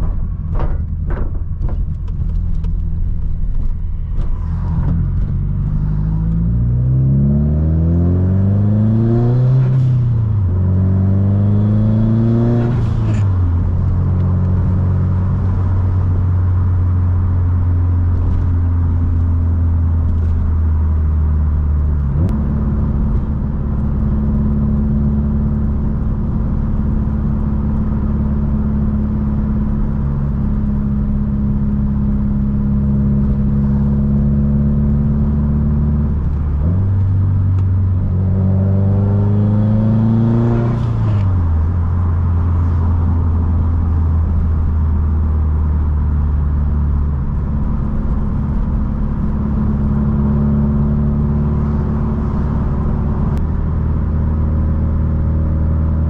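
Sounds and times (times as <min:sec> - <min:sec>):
car engine and exhaust accelerating: 0:00.0 - 0:56.0.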